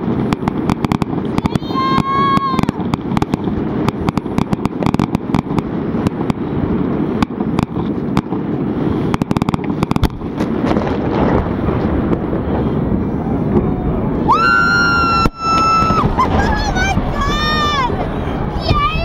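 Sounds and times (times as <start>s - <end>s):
constant low rumble: 0.0s - 19.0s
fireworks crackling: 0.0s - 19.0s
fireworks cracks and bangs: 0.0s - 19.0s.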